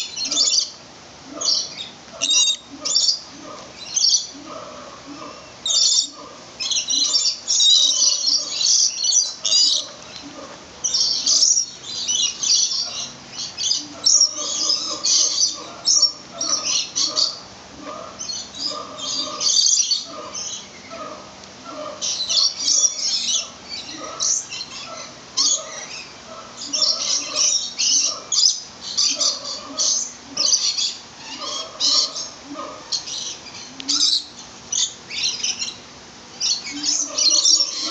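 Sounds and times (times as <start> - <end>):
birds chirping and squawking: 0.0 - 37.9
lower bird calls: 0.0 - 37.9.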